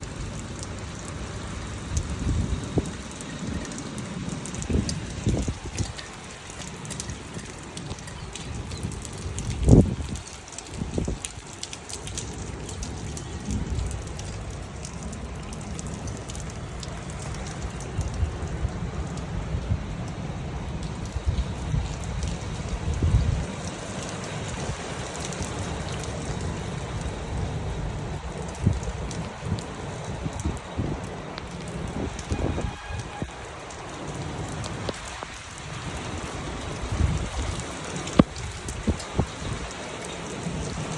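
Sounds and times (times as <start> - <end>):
rain falling: 0.0 - 40.9
raindrops ticking on surfaces: 0.0 - 40.9
sharp drip-like taps: 0.0 - 40.9.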